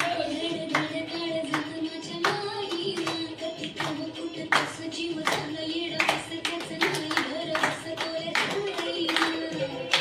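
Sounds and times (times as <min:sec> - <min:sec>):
hands clapping in rhythm: 0:00.0 - 0:10.0
music with singing: 0:00.0 - 0:10.0.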